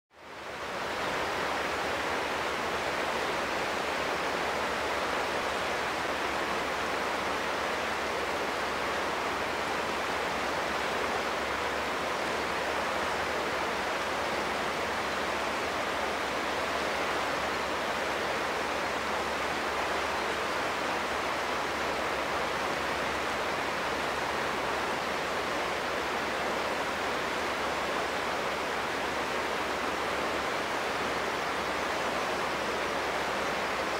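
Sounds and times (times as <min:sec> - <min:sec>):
fast-flowing river rushing: 0:00.2 - 0:33.9.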